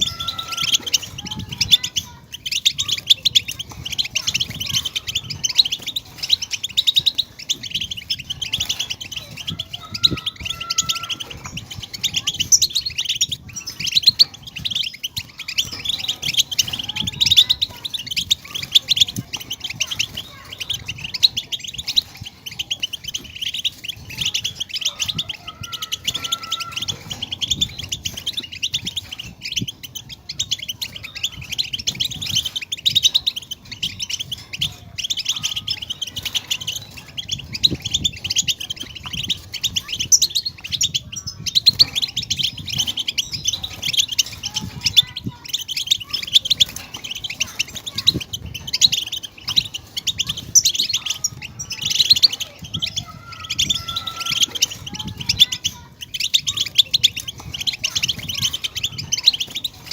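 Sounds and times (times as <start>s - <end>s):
finches twittering: 0.0s - 59.9s.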